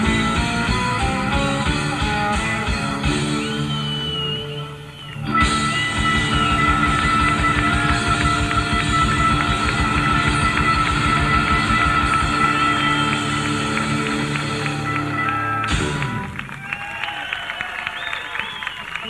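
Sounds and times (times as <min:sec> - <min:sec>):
guitar-led rock music: 0:00.0 - 0:16.5.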